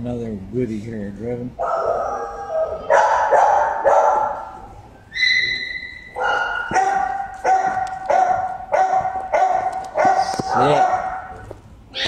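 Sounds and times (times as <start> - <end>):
dog whining: 1.6 - 8.5, 9.1 - 12.0
dog barking: 1.6 - 11.5.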